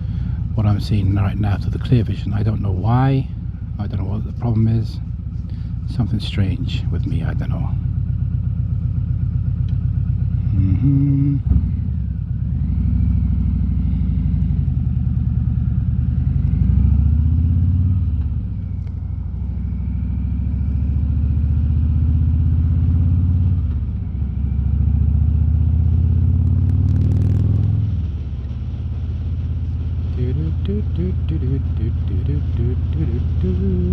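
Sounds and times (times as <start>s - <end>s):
exhaust crackle: 0.0s - 33.9s
motorcycle engine running: 0.0s - 33.9s.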